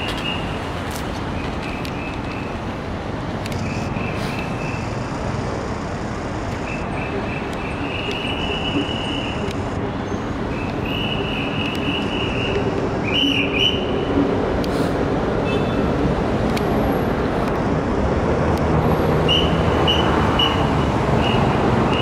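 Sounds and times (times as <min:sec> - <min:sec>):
urban traffic noise: 0:00.0 - 0:22.0.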